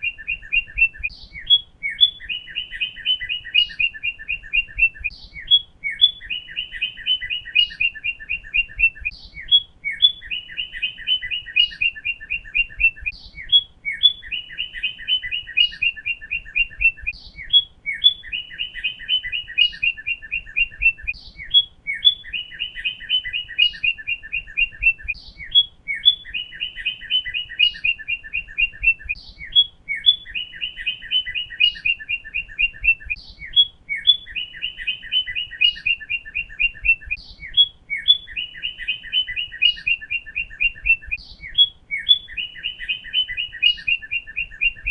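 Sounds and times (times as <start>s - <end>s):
bird singing whistled phrases: 0.0s - 44.9s.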